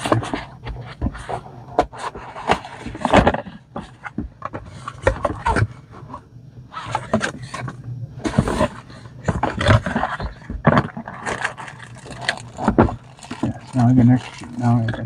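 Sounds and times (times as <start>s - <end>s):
cardboard box lid opening and closing: 0.0s - 5.7s, 6.7s - 15.0s
cardboard scraping: 0.0s - 15.0s.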